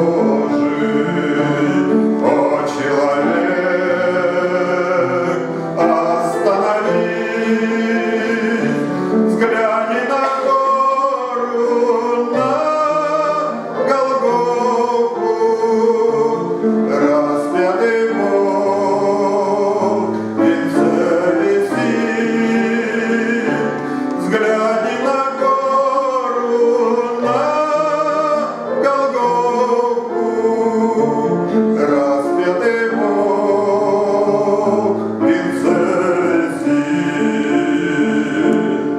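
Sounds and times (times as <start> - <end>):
instrumental accompaniment: 0.0 - 38.9
man singing with vibrato: 0.0 - 38.9.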